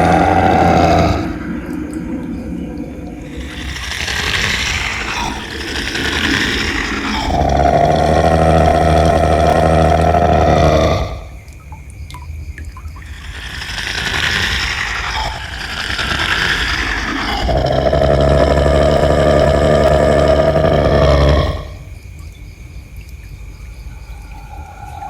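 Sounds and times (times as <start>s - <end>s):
monster growling and roaring: 0.0s - 11.4s, 13.1s - 21.8s
deep rumble: 0.0s - 22.1s.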